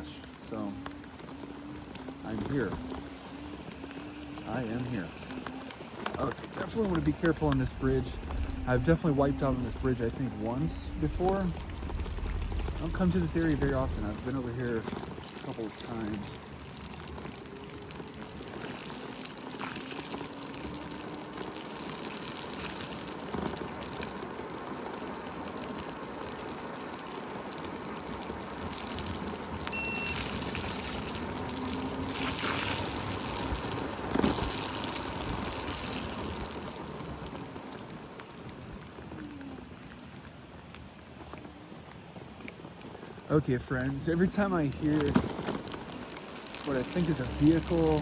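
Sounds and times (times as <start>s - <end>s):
creek rushing in flood: 0.0s - 48.0s.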